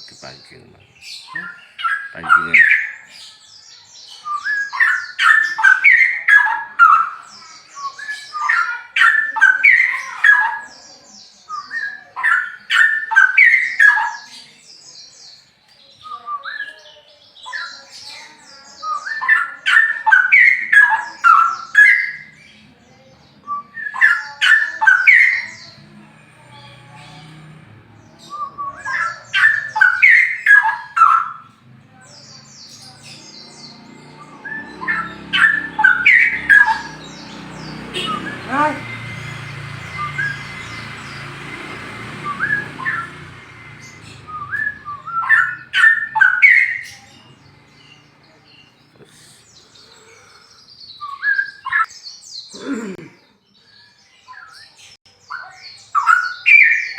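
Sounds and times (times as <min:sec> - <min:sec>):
bulbul singing: 0:00.0 - 0:56.9.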